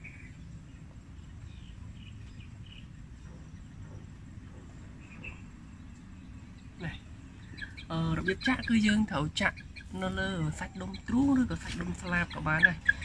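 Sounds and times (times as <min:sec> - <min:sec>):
chick peeping: 0:00.0 - 0:13.0
low background rumble: 0:00.0 - 0:13.0.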